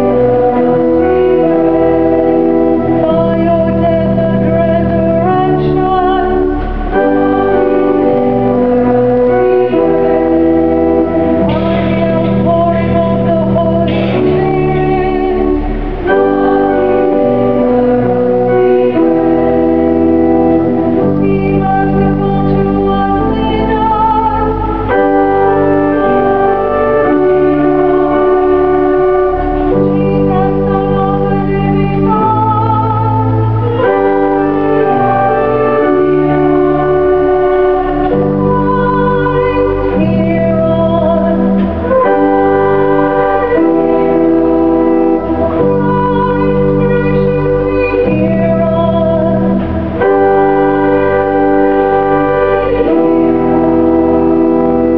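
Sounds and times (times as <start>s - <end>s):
organ playing slow chords: 0.0s - 54.9s.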